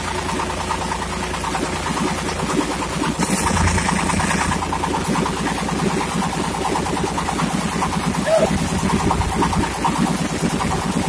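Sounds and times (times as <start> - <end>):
diesel engine knocking: 0.0 - 11.0.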